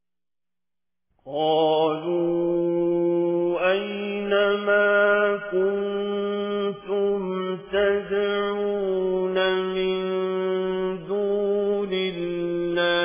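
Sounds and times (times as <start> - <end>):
person chanting melodically: 1.3 - 13.0.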